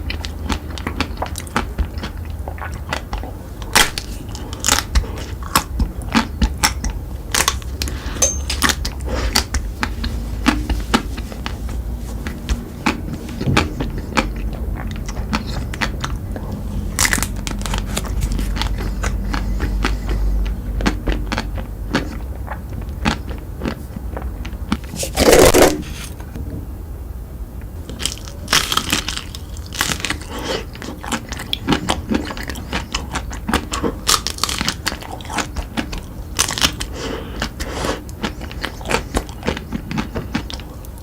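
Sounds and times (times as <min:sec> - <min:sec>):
crunchy sweets being chewed: 0:00.0 - 0:26.4, 0:27.8 - 0:41.0.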